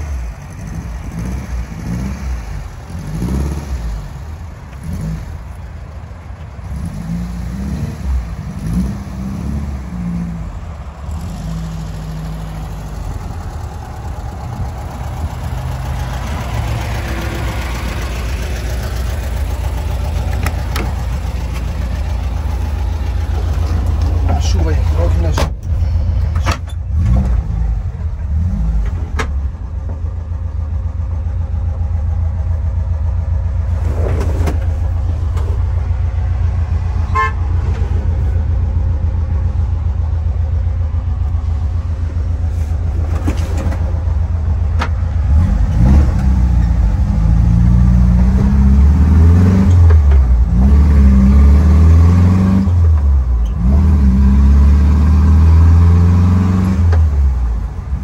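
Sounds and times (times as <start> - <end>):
van engine running: 0.0 - 58.0.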